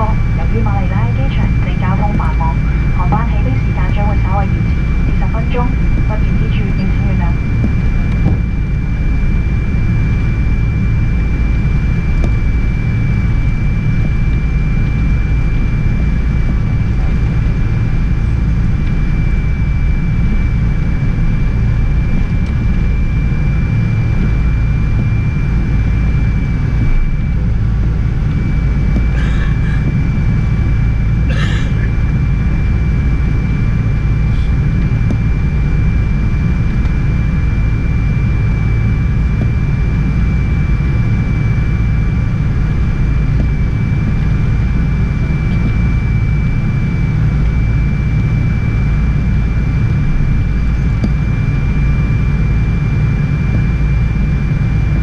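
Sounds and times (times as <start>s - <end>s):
low cabin rumble: 0.0s - 55.0s
thin high engine whine: 0.0s - 55.0s.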